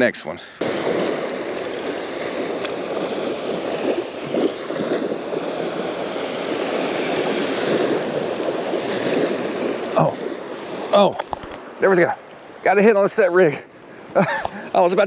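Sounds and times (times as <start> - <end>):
small waves breaking on a beach: 0.0 - 15.0.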